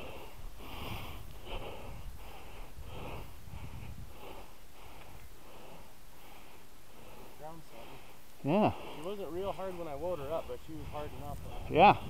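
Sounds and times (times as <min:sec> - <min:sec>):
heavy rhythmic breathing: 0:00.0 - 0:12.0.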